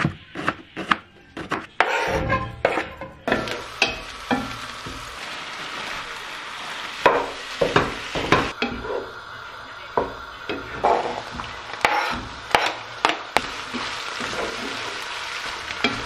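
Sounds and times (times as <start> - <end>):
onion and meat sizzling: 0.0 - 16.0.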